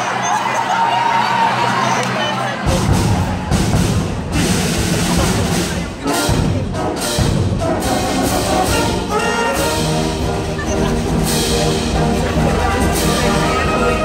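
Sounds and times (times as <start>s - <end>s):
symphonic band playing: 1.0s - 14.0s.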